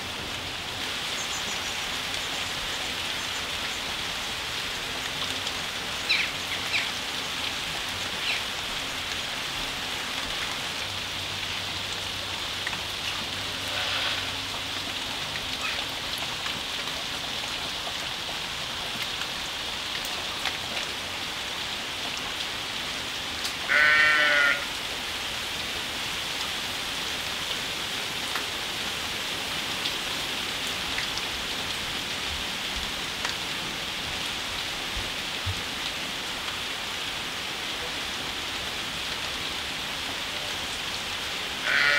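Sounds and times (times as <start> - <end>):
rain on leaves: 0.0 - 41.9.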